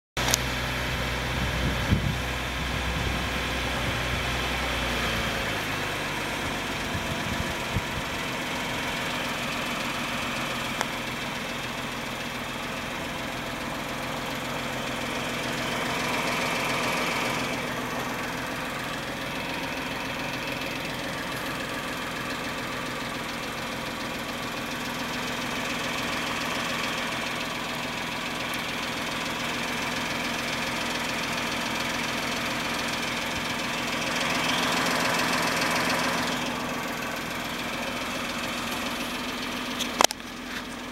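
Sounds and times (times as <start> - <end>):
car engine idling: 0.2 - 40.9
loud engine ticking: 0.2 - 40.9.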